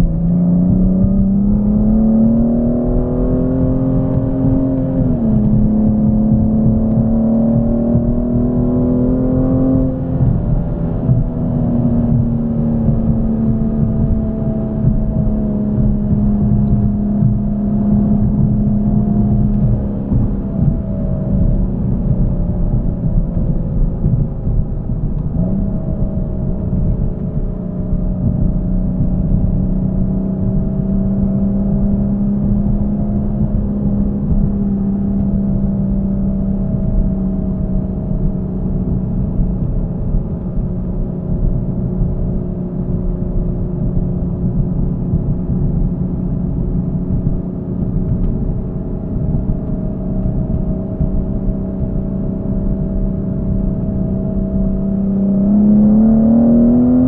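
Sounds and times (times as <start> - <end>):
engine and exhaust drone: 0.0 - 57.0
low road rumble: 0.0 - 57.0.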